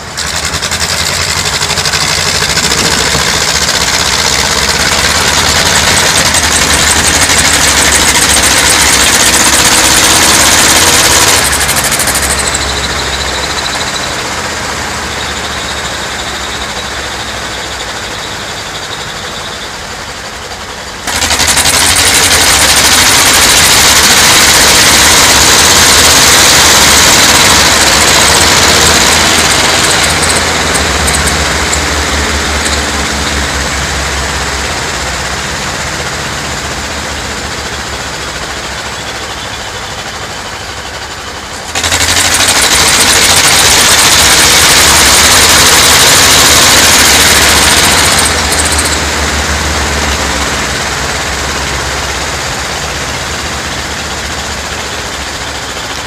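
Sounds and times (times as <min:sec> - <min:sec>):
diesel tractors revving: 0:00.0 - 0:56.0.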